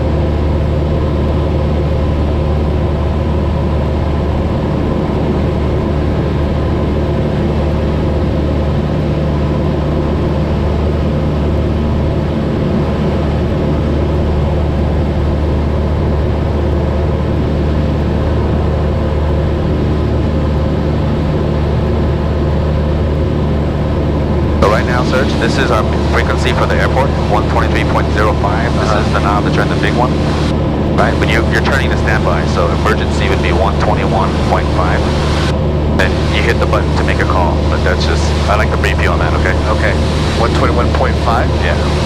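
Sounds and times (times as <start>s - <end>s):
airplane engine droning in cabin: 0.0s - 42.0s.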